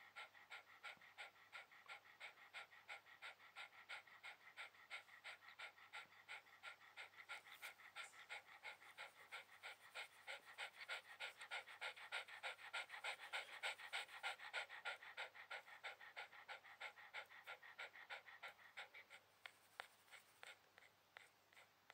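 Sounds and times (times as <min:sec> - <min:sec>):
dog panting: 0:00.0 - 0:21.9.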